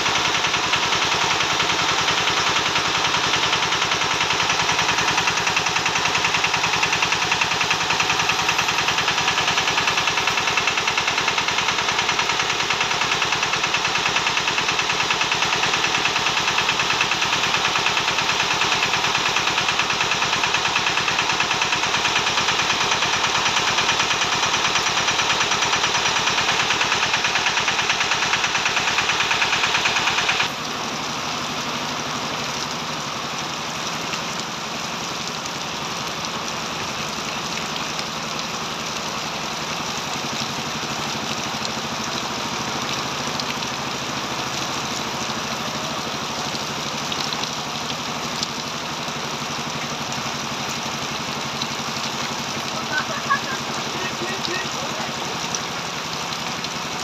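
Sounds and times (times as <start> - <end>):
engine running: 0.0 - 57.0
heavy rain falling on water: 0.0 - 57.0.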